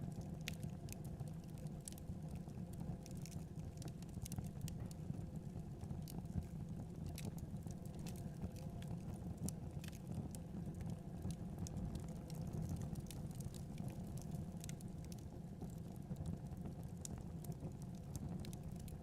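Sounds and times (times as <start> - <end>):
low rumble of flames: 0.0 - 19.0
logs crackling and popping: 0.1 - 5.0, 5.9 - 19.0.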